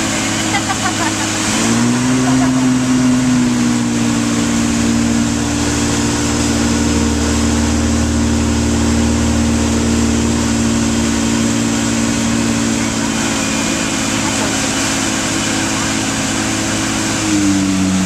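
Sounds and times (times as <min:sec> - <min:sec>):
churning wake water: 0:00.0 - 0:18.0
motorboat engine running: 0:00.0 - 0:18.0.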